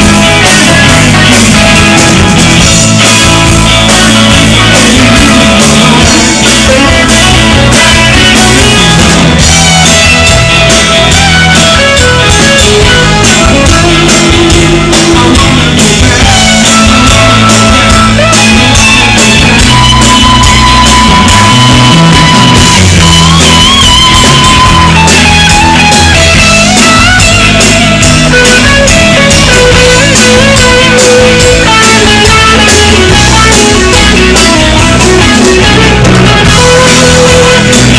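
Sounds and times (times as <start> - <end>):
bass guitar: 0.0 - 37.9
drums with cymbals: 0.0 - 37.9
electric guitar held notes: 0.0 - 37.9.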